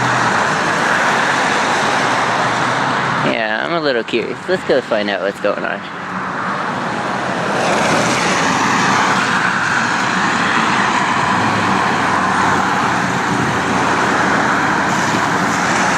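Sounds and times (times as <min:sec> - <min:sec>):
car engine and tyre noise: 0:00.0 - 0:15.9.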